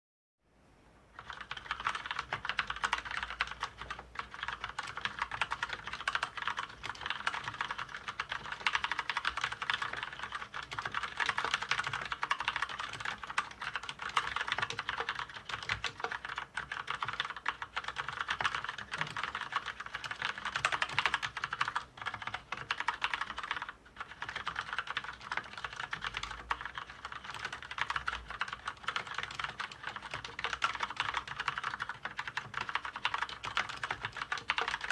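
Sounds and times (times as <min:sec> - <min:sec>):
fast typing on mechanical keyboard: 0:01.2 - 0:34.9.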